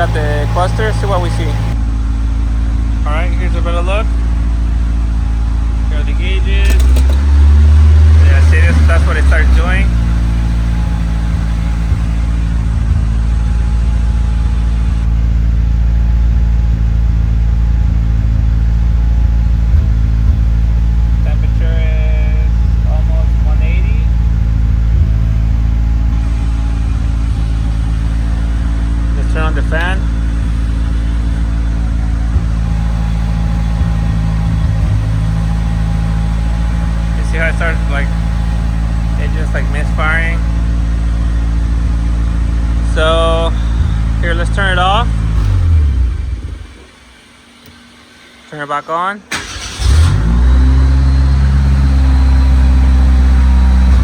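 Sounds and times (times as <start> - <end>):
faint steady whine: 0.0 - 7.2, 7.8 - 49.5
car engine idling: 0.0 - 54.0.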